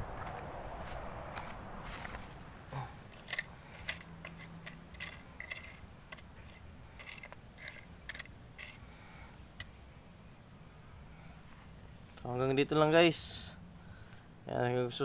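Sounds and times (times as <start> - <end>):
charcoal crackling and popping: 0.0 - 15.0.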